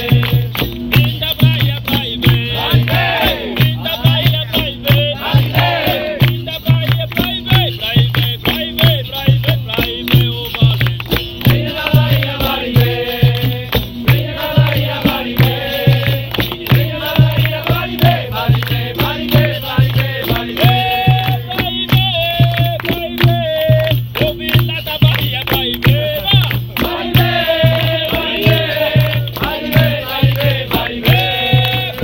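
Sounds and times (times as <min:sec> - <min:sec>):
percussion beat with low drum: 0:00.0 - 0:32.0
voices singing a chant: 0:00.0 - 0:32.0.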